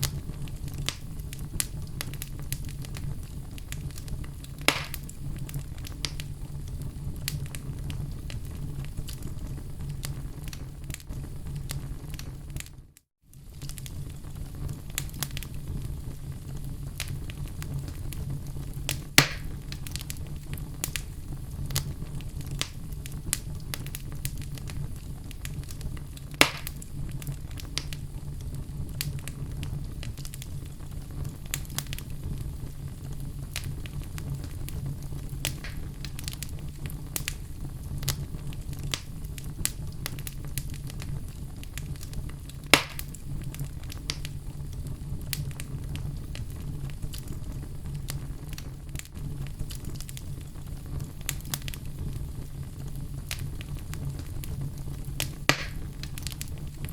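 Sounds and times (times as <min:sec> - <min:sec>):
logs crackling in a fireplace: 0:00.0 - 0:56.9
low rumble of flames: 0:00.0 - 0:56.9.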